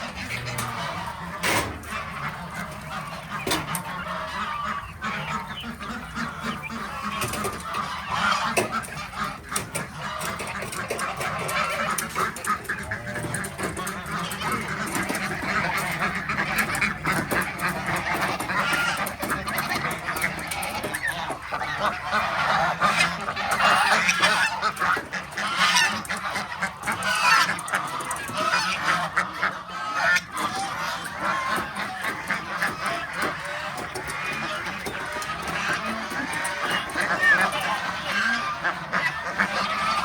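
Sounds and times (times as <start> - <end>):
flock of farm birds calling: 0.0 - 40.0.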